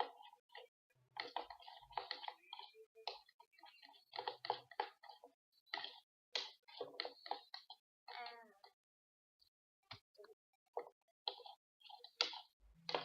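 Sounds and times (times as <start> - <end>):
spoon stirring slime: 0.0 - 8.2, 10.7 - 13.0.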